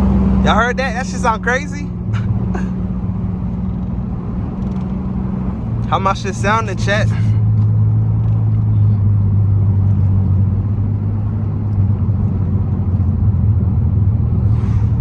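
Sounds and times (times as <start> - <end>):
car exhaust droning: 0.0 - 15.0.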